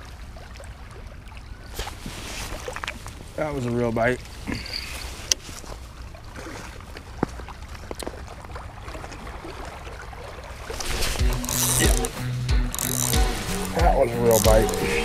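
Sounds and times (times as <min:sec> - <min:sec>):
waves lapping on rocky shore: 0:00.0 - 0:12.2.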